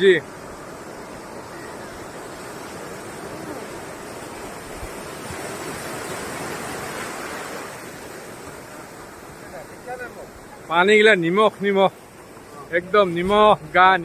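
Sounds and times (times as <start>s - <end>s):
waves washing on beach: 0.0s - 14.0s.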